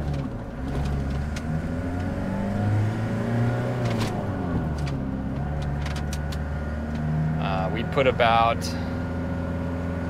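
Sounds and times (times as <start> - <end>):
diesel engine accelerating: 0.0 - 10.0.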